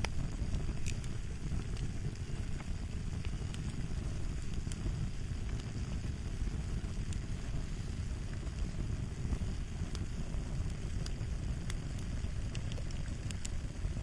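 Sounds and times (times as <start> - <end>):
fire burning: 0.0 - 14.0
fire popping and snapping: 0.0 - 14.0.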